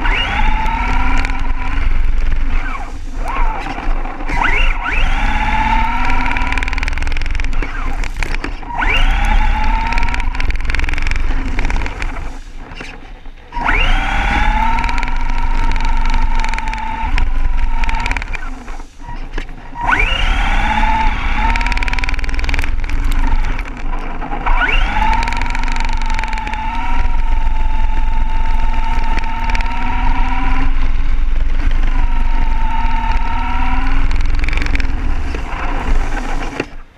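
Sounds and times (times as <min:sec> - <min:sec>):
steady low rumble: 0:00.0 - 0:36.6
toy car motor whine: 0:00.0 - 0:36.9.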